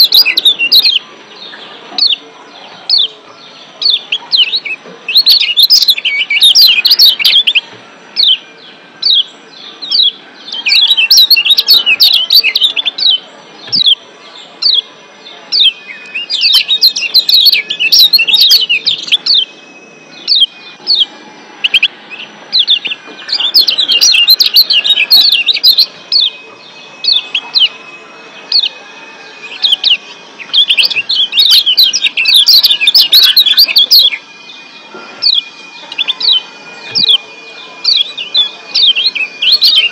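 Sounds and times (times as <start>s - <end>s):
bird sharp chirps: 0.0s - 28.8s, 29.5s - 34.3s.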